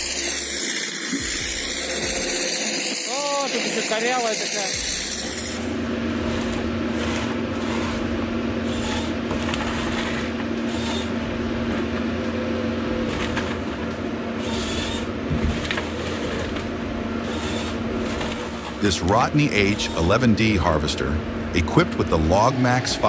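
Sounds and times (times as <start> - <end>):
engine droning hum: 3.1 - 23.0.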